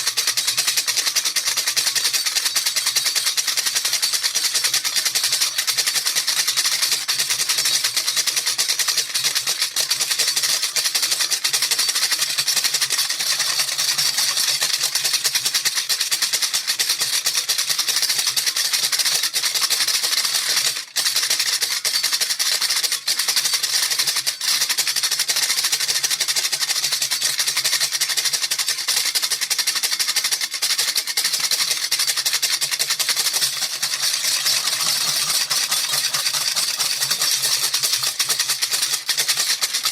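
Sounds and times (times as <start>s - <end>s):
baby rattle shaken rapidly: 0.0s - 39.9s.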